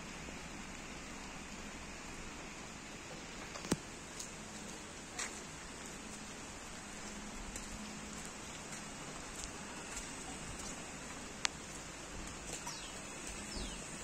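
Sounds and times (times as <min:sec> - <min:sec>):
light rain on wet ground: 0:00.0 - 0:14.0.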